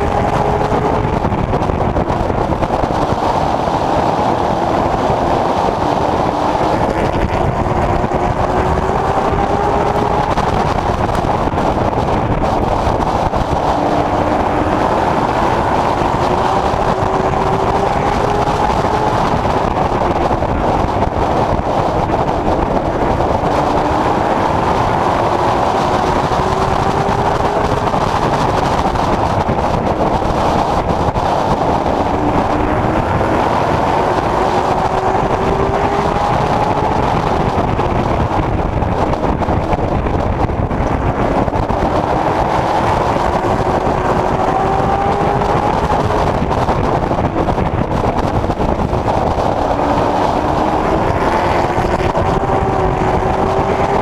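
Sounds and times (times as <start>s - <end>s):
race car engine: 0.0s - 54.0s
wind and road noise: 0.0s - 54.0s.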